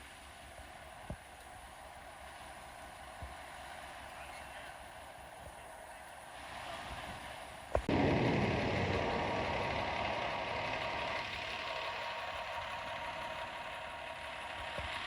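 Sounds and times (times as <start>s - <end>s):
vehicle engine running: 0.3s - 15.0s.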